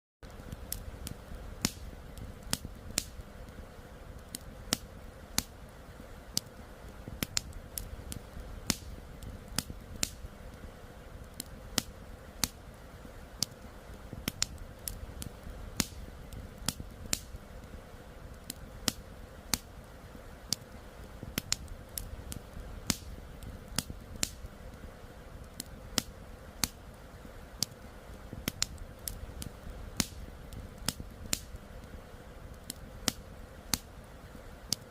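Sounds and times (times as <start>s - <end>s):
campfire crackling and popping: 0.2s - 34.9s.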